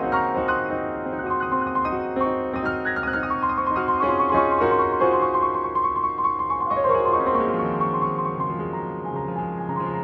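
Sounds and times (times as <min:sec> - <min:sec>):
solo piano music: 0:00.0 - 0:10.0.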